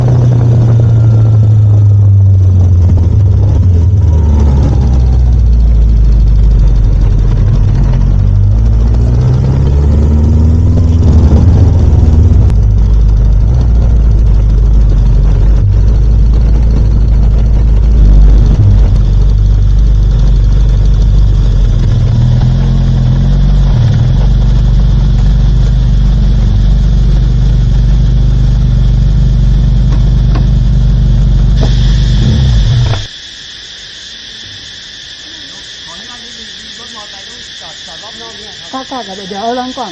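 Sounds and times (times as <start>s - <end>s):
motorcycle engine revving: 0.0s - 33.2s.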